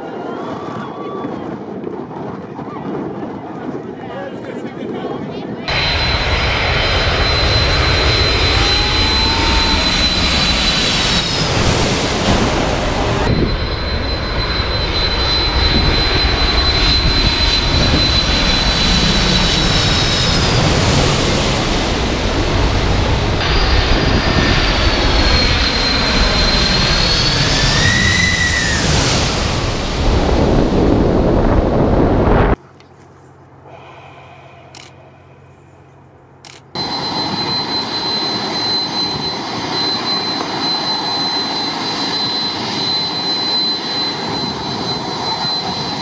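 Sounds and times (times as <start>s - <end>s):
jet engines roaring with high whine: 0.1s - 46.0s.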